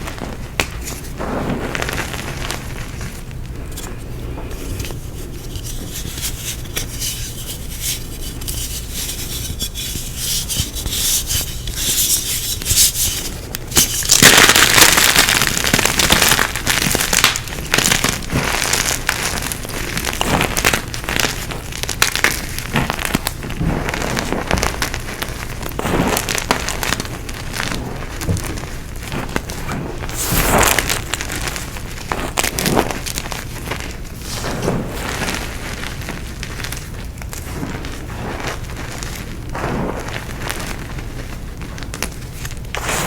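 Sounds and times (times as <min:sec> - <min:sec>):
chalk crunching and crackling: 0:00.0 - 0:43.0.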